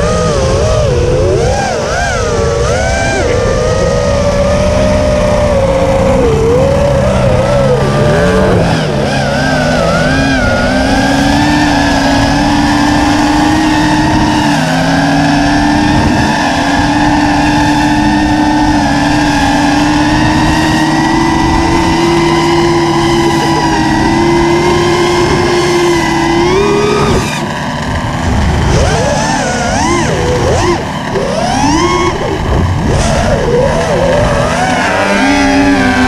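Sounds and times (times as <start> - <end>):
model aircraft engines buzzing: 0.0 - 36.0.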